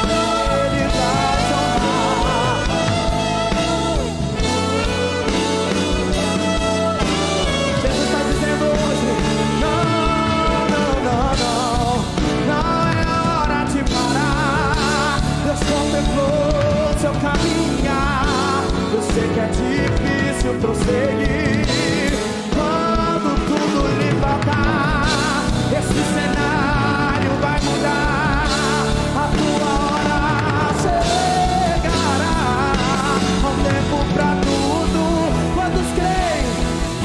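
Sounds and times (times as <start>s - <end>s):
gospel band with drums and bass: 0.0s - 37.0s
person singing long notes: 0.0s - 37.0s.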